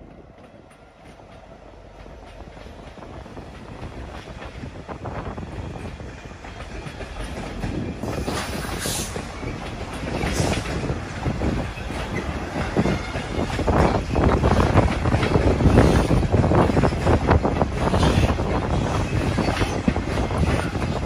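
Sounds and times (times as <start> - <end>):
train wheels clattering over joints: 0.0 - 21.0.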